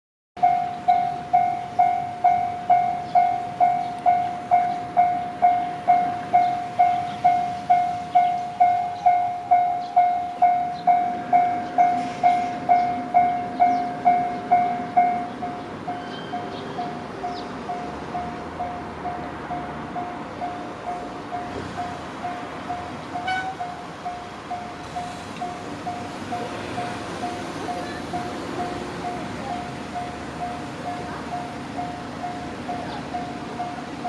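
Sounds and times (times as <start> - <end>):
level-crossing warning bell clanging: 0.4 - 34.0
low train rumble: 0.4 - 34.0.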